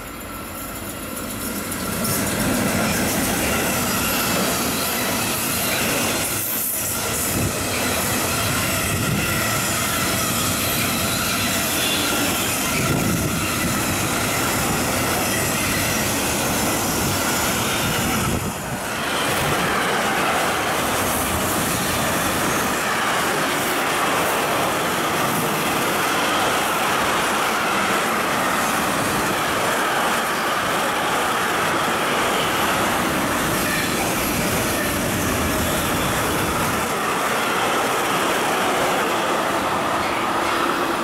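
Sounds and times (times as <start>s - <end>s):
train wheels rolling on rails: 0.0s - 41.0s.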